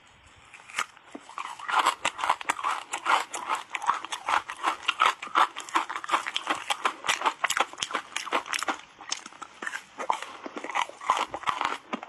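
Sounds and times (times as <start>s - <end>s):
crunching ice between teeth: 0.5s - 12.0s.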